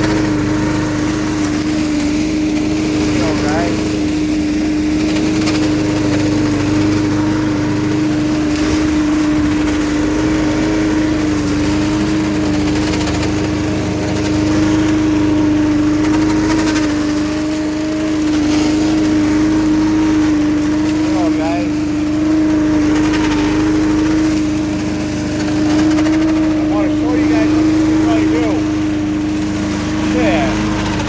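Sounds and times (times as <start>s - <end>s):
leaf vacuum engine droning: 0.0s - 31.0s.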